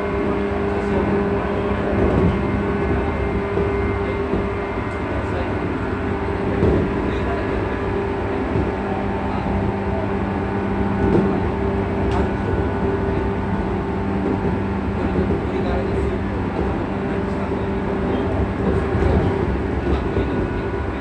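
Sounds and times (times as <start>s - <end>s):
electric train motor hum: 0.0s - 21.0s
wheels rumbling on track: 0.0s - 21.0s.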